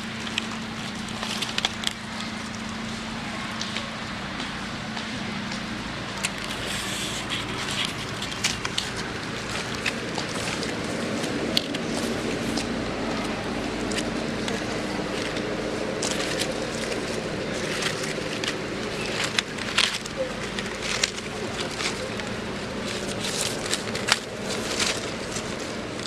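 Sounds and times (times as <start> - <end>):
dry leaves crackling: 0.0 - 26.0
steady low hum: 0.0 - 26.0.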